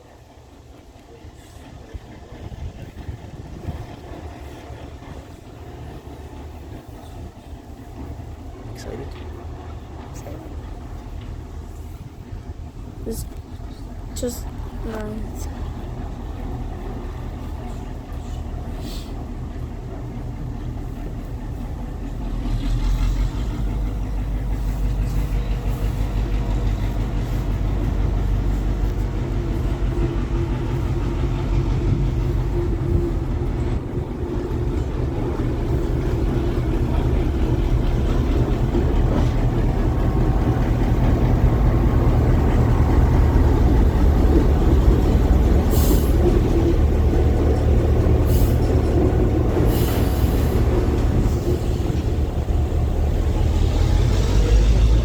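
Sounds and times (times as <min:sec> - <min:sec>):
train approaching rumble: 0:00.0 - 0:55.0.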